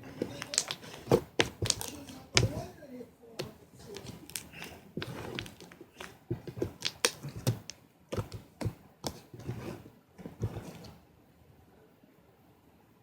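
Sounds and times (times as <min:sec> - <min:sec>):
soft handling noise: 0:00.0 - 0:11.0.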